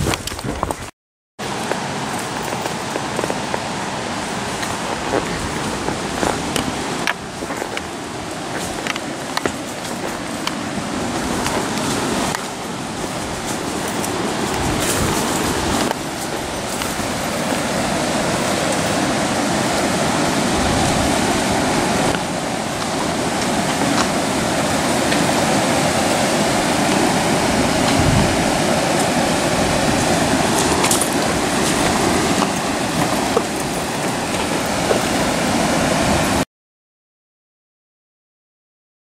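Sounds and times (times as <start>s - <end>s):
river rapids rushing over rocks: 1.4s - 36.4s.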